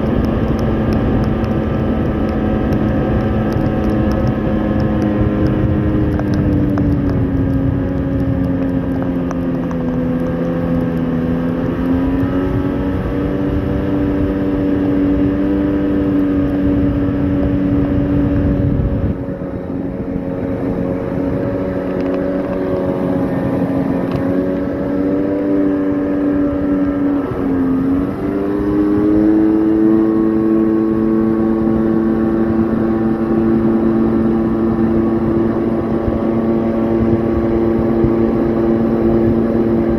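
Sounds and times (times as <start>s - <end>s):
watercraft engine running: 0.0s - 39.9s.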